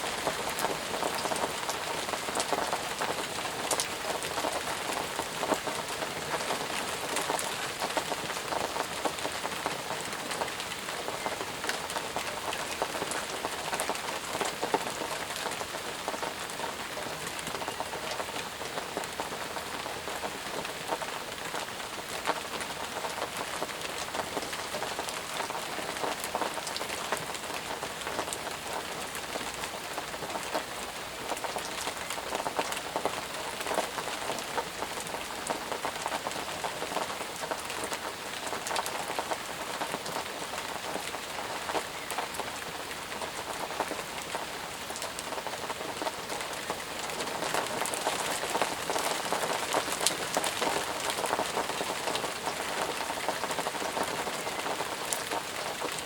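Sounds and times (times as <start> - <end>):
close raindrop patters: 0.0 - 56.0
heavy rain on leaves: 0.0 - 56.0.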